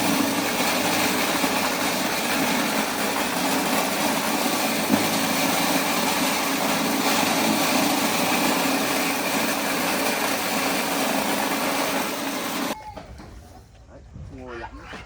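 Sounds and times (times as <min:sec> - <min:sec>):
corn sheller machine whirring: 0:00.0 - 0:12.8.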